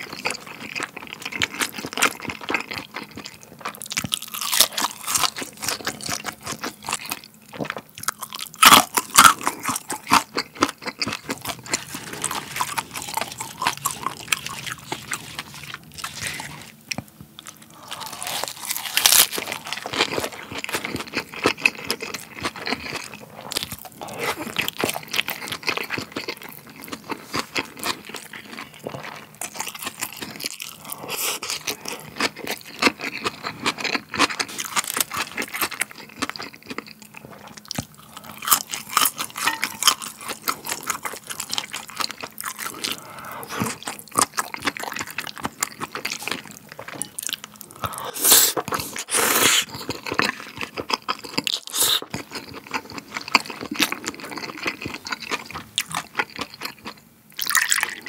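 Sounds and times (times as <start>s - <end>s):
chewing and crunching: 0.0s - 58.0s.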